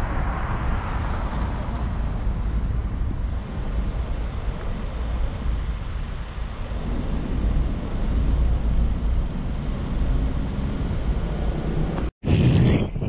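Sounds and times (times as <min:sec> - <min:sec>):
engine and road rumble: 0:00.0 - 0:13.0
wind buffeting on microphone: 0:00.0 - 0:13.0.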